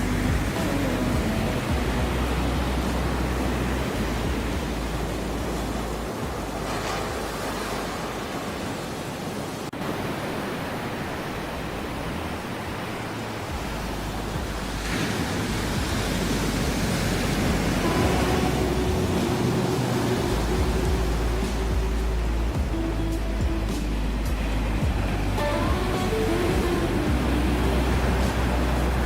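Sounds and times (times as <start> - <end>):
soft held music notes: 0.0 - 7.9, 13.5 - 29.0
ocean waves breaking: 0.0 - 29.0.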